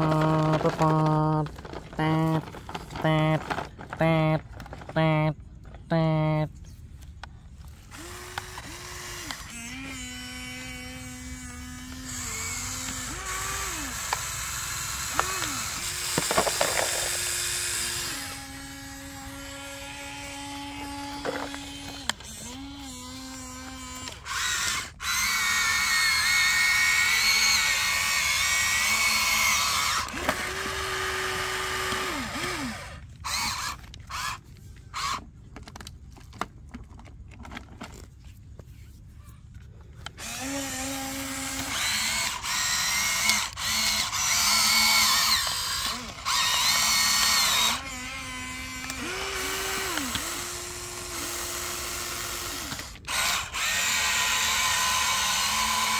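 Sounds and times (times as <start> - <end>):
toy excavator motors whining: 0.0 - 55.9.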